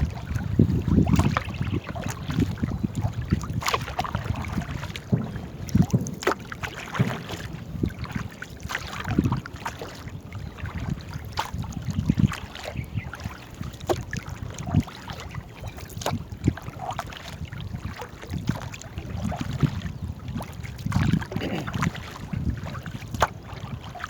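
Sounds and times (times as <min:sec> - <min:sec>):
paddles splashing in water: 0:00.0 - 0:24.0.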